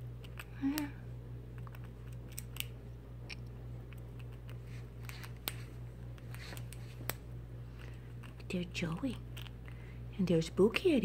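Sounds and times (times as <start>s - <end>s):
steady low hum: 0.0s - 11.0s
squirrel teeth cracking nut shell: 0.2s - 7.2s, 7.8s - 9.8s.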